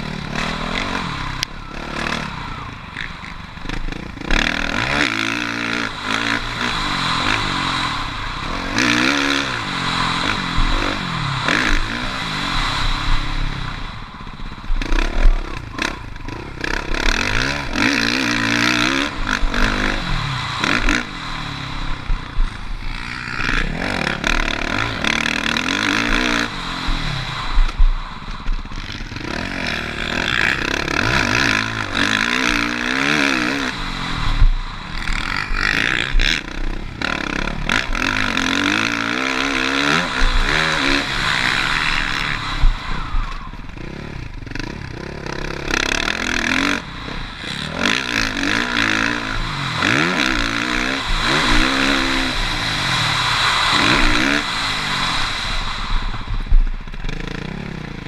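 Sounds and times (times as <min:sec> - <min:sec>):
bike rattling and scraping: 0:00.0 - 0:58.0
motocross bike engine revving: 0:00.0 - 0:58.0.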